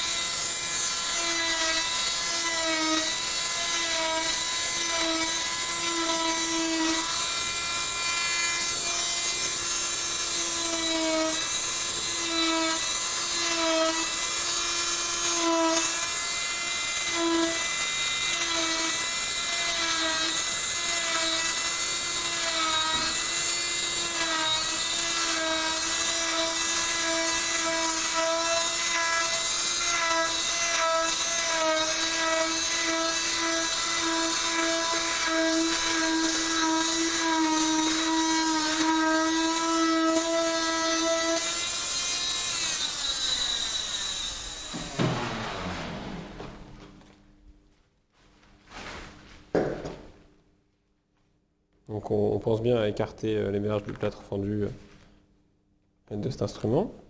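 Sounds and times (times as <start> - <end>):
cast saw whining: 0.0 - 46.6.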